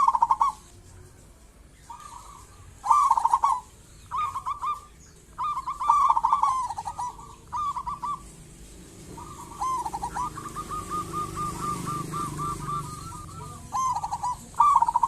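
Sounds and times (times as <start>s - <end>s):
dove cooing: 0.0s - 1.1s, 1.8s - 15.0s.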